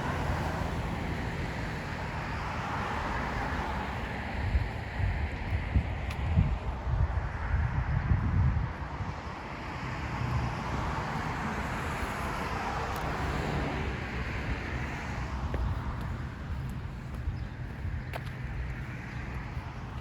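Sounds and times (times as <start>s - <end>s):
road vehicle passing: 0.0s - 6.8s, 8.8s - 20.0s
wind rumble on microphone: 0.0s - 20.0s.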